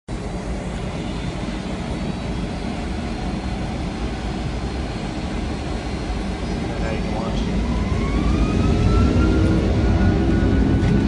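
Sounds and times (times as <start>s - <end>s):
jet cabin engine rumble: 0.1s - 11.0s.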